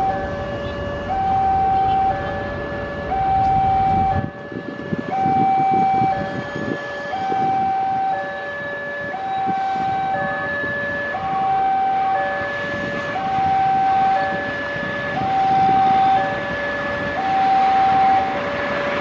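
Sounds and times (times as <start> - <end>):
diesel locomotive rumble: 0.0 - 19.0
two-tone level crossing alarm: 0.0 - 19.0.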